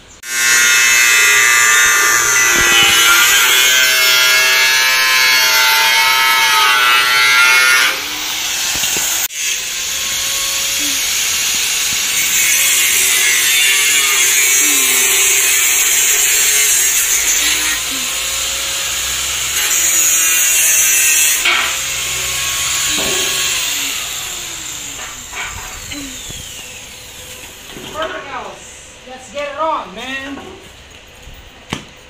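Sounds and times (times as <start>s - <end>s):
angle grinder cutting steel: 0.2s - 28.1s.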